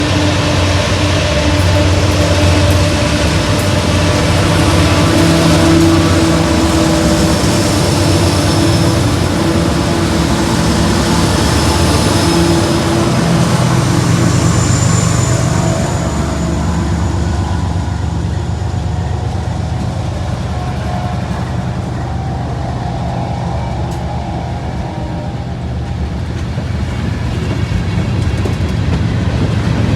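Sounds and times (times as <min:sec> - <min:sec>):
diesel locomotive engines droning: 0:00.0 - 0:29.9.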